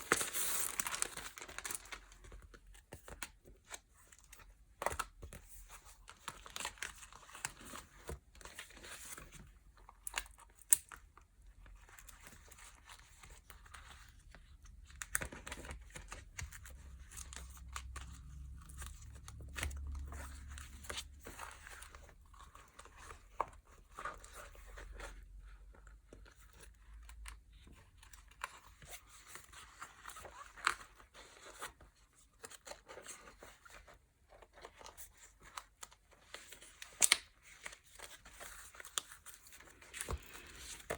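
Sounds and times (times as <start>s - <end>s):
wrapping crinkling and rustling: 0.0s - 40.9s.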